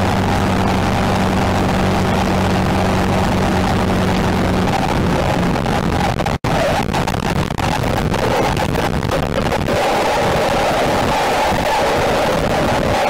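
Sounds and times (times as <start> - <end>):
car engine drone: 0.0 - 13.0
road and wind rush: 0.0 - 13.0.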